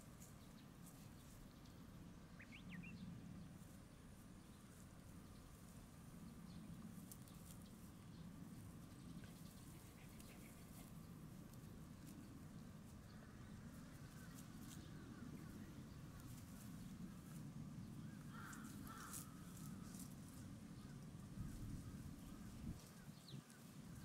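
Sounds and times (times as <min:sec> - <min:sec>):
light ticks and rustling: 0:00.0 - 0:01.9, 0:03.6 - 0:17.6, 0:18.2 - 0:24.0.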